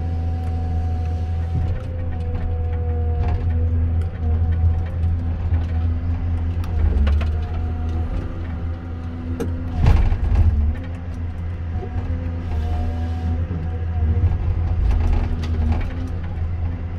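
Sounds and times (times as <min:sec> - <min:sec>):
diesel engine running: 0:00.0 - 0:16.9
hydraulic whine: 0:00.0 - 0:16.9.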